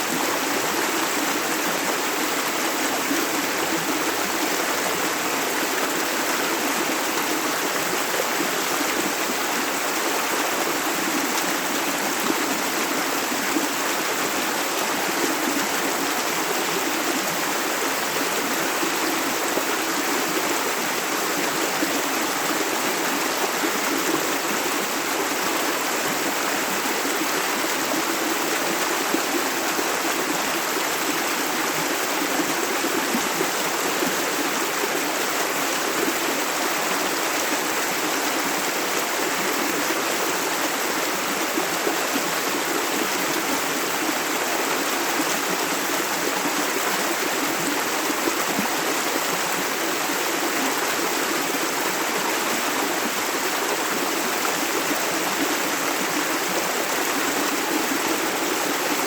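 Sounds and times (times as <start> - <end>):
shallow river flowing over stones: 0.0 - 59.0.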